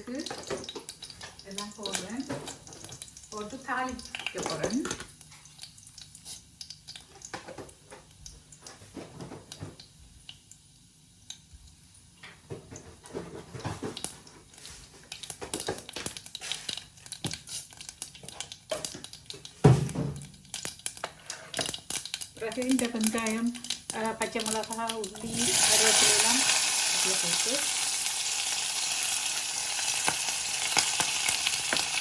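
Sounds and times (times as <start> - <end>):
spices popping in hot oil: 0.0 - 32.0.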